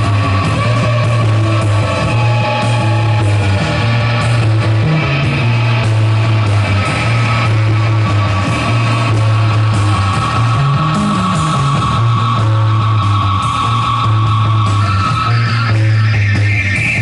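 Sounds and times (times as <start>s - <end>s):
high held tone: 0.0s - 16.8s
distorted electric guitar: 0.0s - 17.0s.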